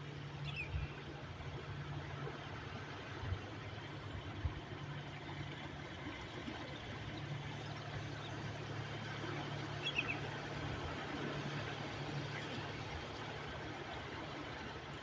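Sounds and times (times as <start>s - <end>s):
low steady hum: 0.0s - 15.0s
waves washing: 0.0s - 15.0s.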